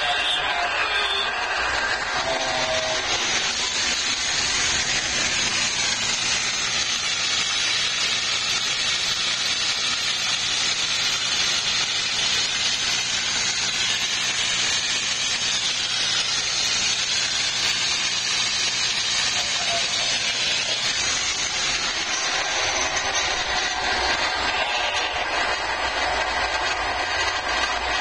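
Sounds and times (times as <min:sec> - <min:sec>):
water gushing onto concrete floor: 0:01.6 - 0:28.0.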